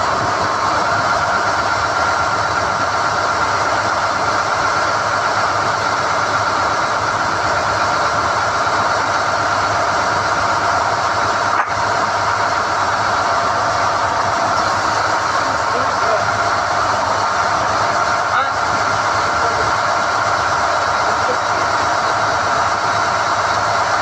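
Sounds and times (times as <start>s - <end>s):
drilling rig running under load: 0.0s - 24.0s.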